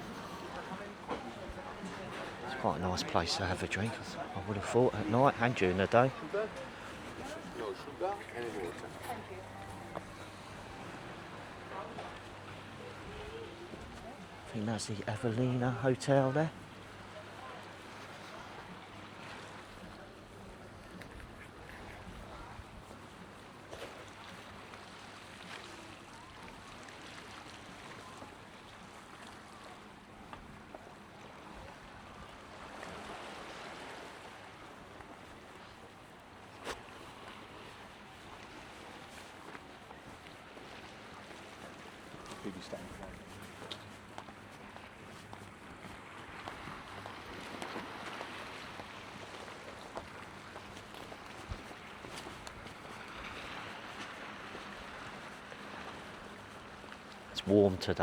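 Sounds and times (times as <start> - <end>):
sea: 0.0 - 58.0.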